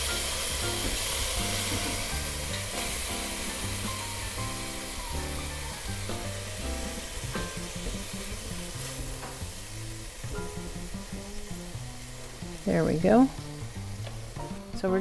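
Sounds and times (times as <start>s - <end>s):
background music: 0.0s - 15.0s
fish sizzling in a pan: 0.0s - 15.0s.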